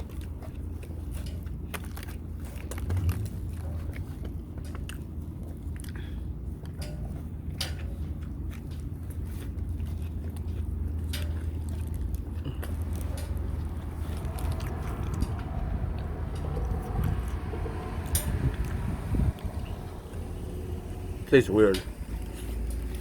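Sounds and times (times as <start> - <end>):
chewing a wrap: 0.0 - 23.0
low rumble: 1.7 - 23.0.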